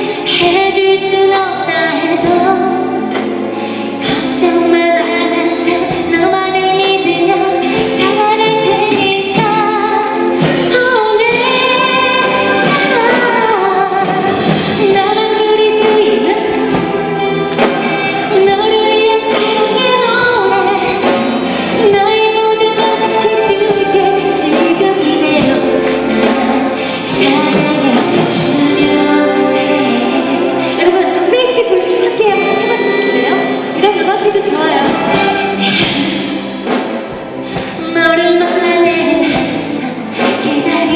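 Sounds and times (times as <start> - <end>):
orchestra playing: 0.0 - 40.9
woman singing a ballad: 0.0 - 40.9.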